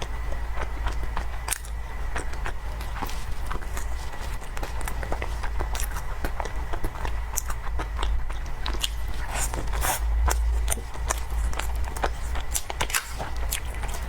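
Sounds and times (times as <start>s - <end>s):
person chewing cake: 0.0s - 14.0s
steady low hum: 0.0s - 14.0s.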